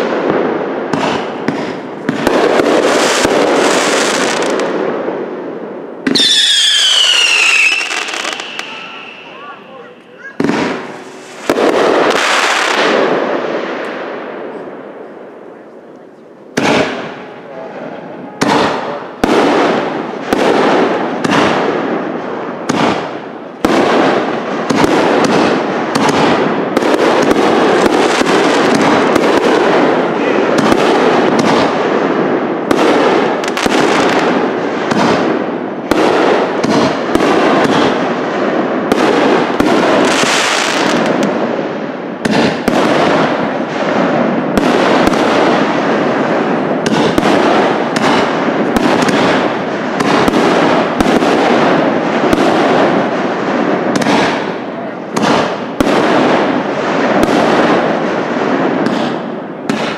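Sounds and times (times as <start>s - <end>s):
fireworks bursting with echoing bangs: 0.0s - 59.9s
hissing crackle of fireworks: 0.0s - 59.9s.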